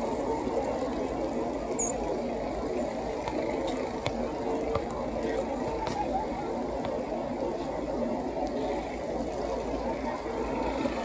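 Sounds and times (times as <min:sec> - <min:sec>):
city traffic hum: 0:00.0 - 0:11.0.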